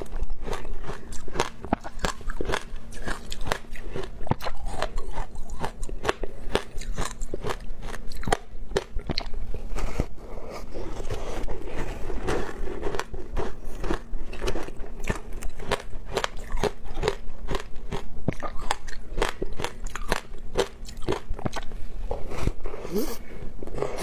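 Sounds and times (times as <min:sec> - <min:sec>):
crunching and chewing shaved ice: 0:00.0 - 0:21.7.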